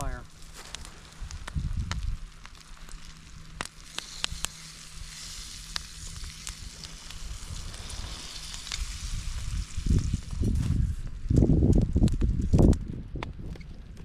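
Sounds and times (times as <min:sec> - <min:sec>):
fire pops and crackles: 0:00.0 - 0:14.0
food sizzling over campfire: 0:00.0 - 0:14.0.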